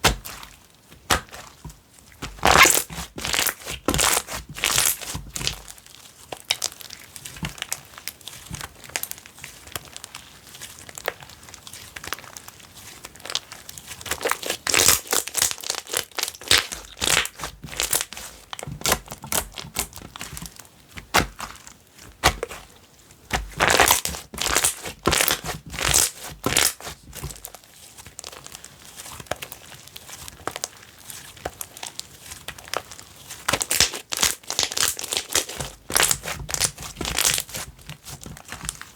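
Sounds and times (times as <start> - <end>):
slime crackling and popping: 0.0 - 1.6, 2.2 - 38.9.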